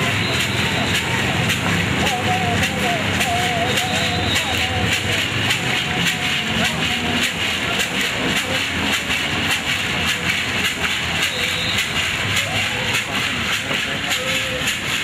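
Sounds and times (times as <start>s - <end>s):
gourd rattle shaken rhythmically: 0.0s - 15.0s.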